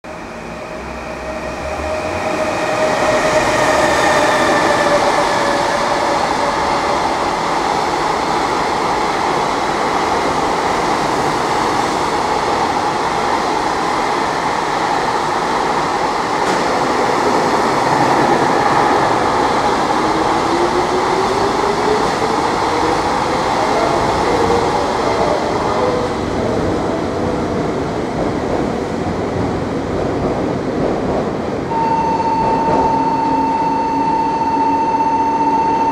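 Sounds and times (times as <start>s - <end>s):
freight train wheels rumbling: 0.0s - 35.9s
high train whine: 0.0s - 35.9s.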